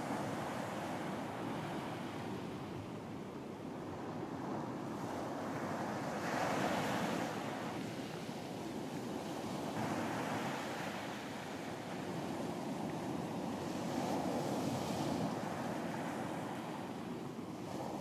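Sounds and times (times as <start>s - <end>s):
ocean waves breaking on beach: 0.0s - 18.0s
wind: 0.0s - 18.0s.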